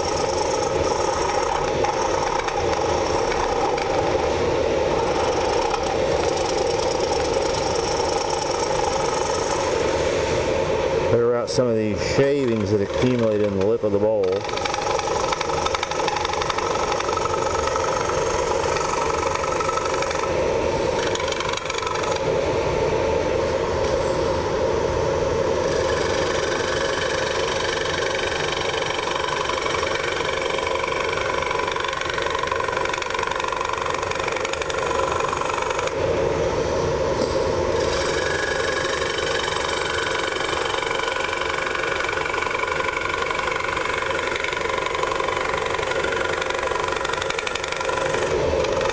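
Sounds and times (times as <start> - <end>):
tool scraping spinning wood: 0.0 - 23.1, 25.3 - 48.9
wood lathe motor hum: 0.0 - 48.9.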